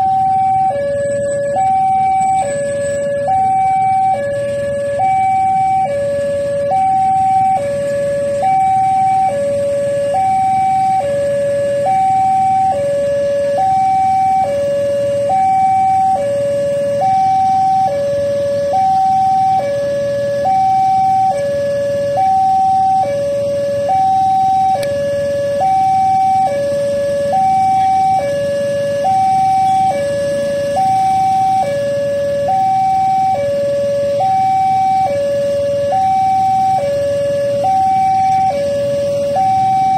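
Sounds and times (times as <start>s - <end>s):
level-crossing two-tone alarm: 0.0s - 39.9s.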